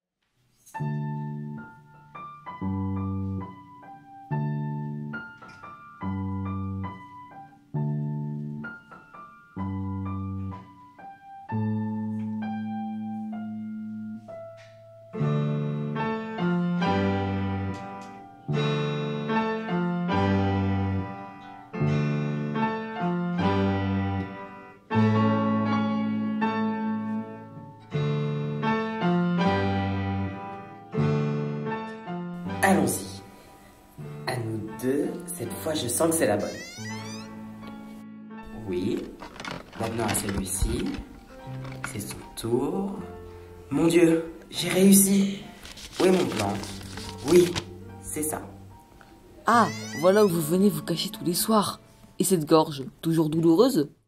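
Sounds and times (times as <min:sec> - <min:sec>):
slow piano tune: 0:00.4 - 0:52.3.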